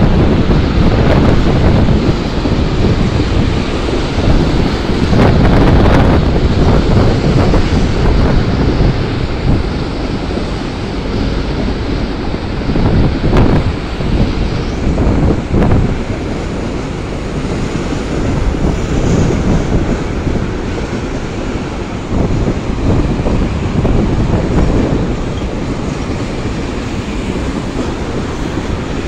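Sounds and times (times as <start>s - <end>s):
freight train rumbling past: 0.0s - 29.0s
wind buffeting microphone: 0.0s - 29.0s.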